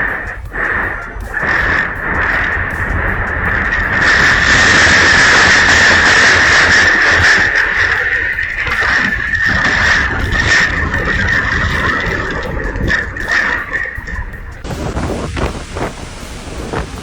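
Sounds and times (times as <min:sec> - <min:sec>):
high wind whistle: 0:00.0 - 0:17.0
strong wind blowing: 0:00.0 - 0:17.0.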